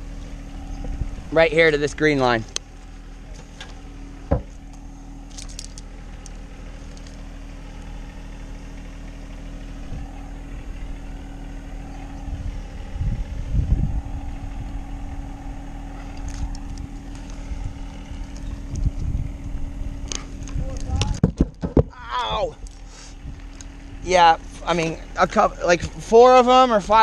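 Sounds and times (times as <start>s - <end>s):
low bumps: 0.0s - 26.2s
steady mechanical hum: 0.0s - 27.0s.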